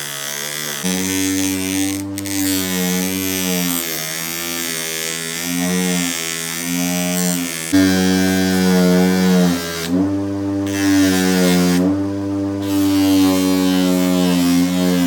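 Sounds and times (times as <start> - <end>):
power tool motor running: 0.0 - 15.0.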